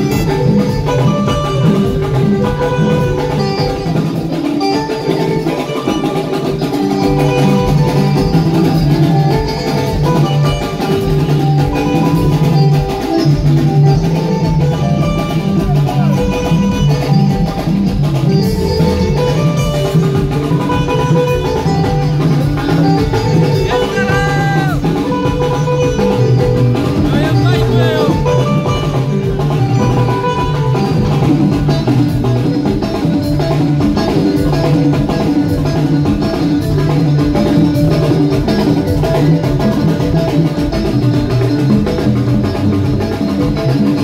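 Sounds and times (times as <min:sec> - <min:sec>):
live band with guitar and drums: 0:00.0 - 0:44.0.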